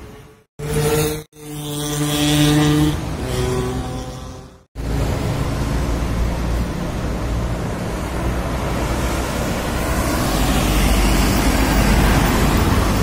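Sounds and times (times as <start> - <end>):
truck tyre noise: 0.0 - 13.0.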